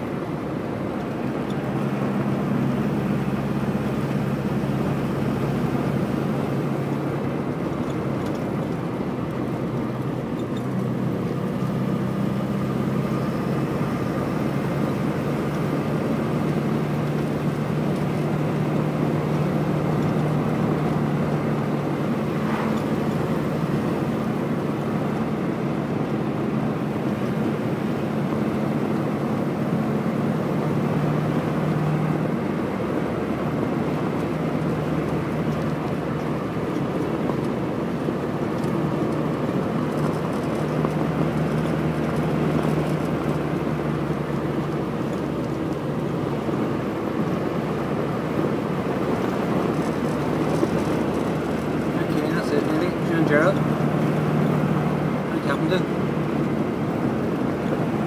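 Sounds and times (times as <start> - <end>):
car engine cruising: 0.0 - 58.0
road and wind noise: 0.0 - 58.0.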